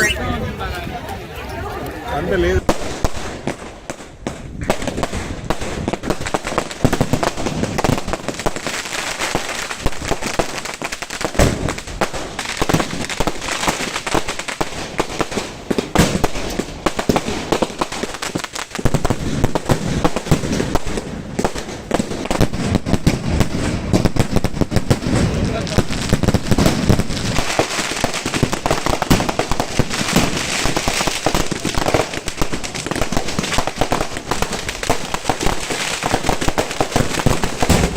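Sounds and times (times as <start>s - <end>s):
fireworks crackling: 0.0s - 37.9s
loud firework booms: 2.6s - 10.6s, 11.2s - 18.2s, 18.8s - 37.9s.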